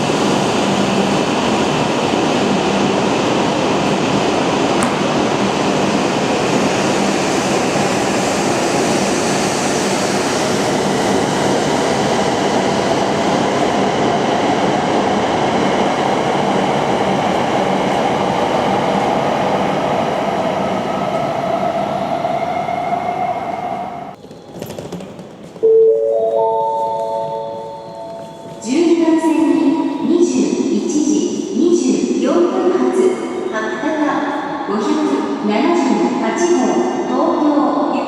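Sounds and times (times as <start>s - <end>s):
train running past: 0.0s - 38.0s.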